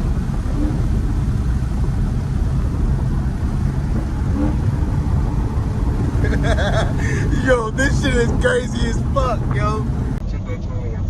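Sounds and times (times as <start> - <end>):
car engine running: 0.0 - 10.2
road rumble: 0.0 - 11.0.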